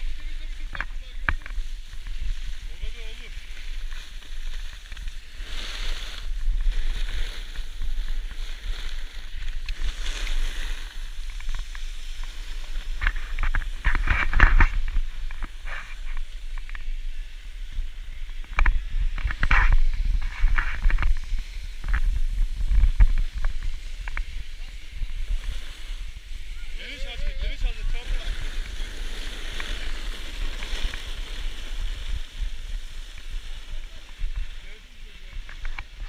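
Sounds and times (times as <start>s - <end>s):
snowboard scraping over snow: 0.0s - 36.0s
wind on microphone: 0.0s - 36.0s.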